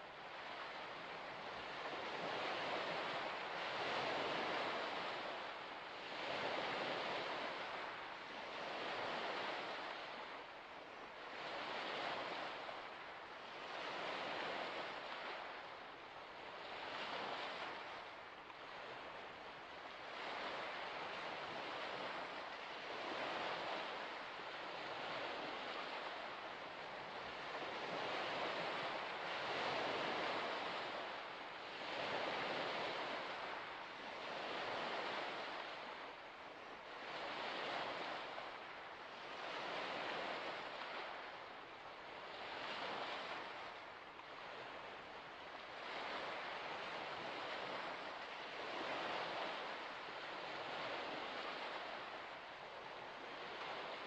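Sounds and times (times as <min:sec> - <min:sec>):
small waves washing onto shore: 0:00.0 - 0:54.0.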